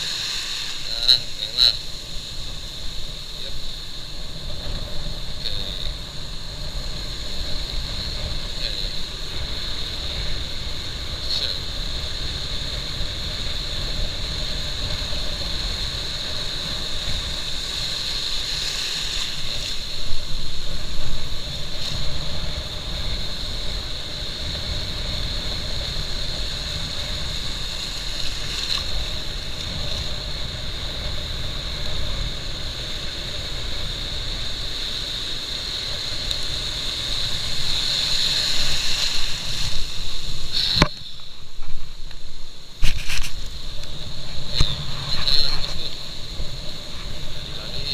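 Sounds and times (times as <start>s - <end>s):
strong wind buffeting microphone: 0.0s - 47.9s.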